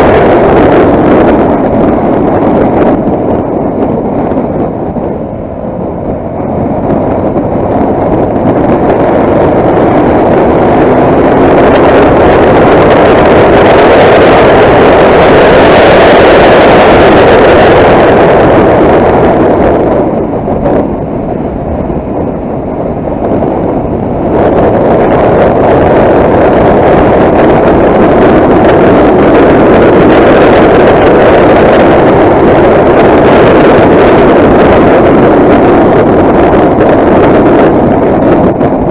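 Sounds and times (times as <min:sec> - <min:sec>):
motorcycle engine: 0:00.0 - 0:38.9
wind rush: 0:00.0 - 0:38.9.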